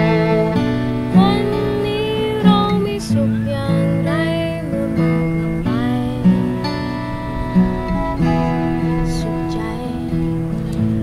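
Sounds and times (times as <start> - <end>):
strummed acoustic guitar: 0.0 - 11.0
violin melody: 0.0 - 11.0
woman singing: 1.1 - 11.0.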